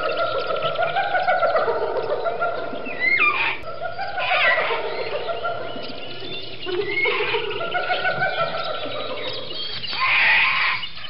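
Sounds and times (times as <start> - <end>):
animal calls: 0.0 - 11.0.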